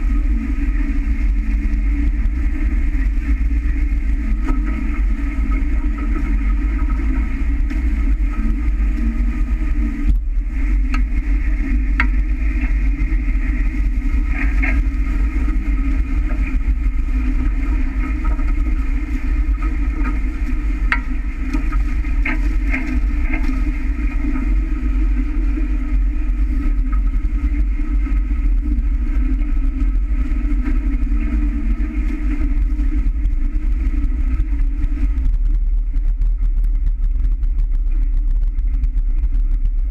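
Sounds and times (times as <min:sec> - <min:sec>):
water rushing along hull: 0:00.0 - 0:38.2
wind buffeting microphone: 0:00.0 - 0:39.9.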